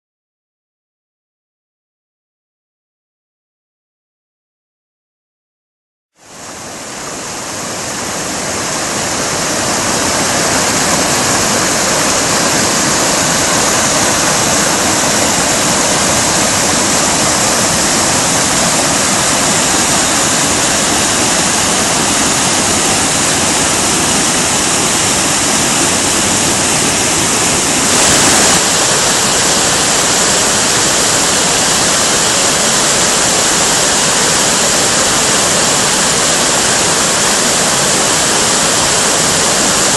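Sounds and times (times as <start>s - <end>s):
waterfall rushing over rocks: 6.2s - 39.9s.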